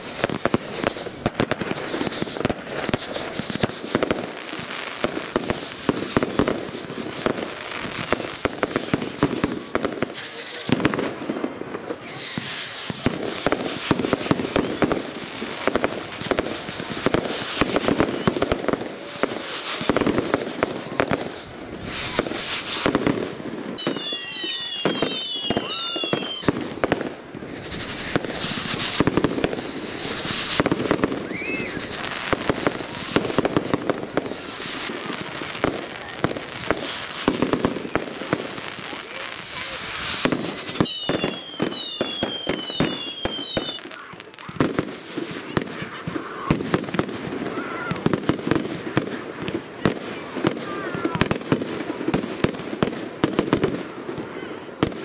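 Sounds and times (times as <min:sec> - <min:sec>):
falling firework whistles: 0:00.0 - 0:55.0
fireworks bangs and crackling: 0:00.0 - 0:55.0.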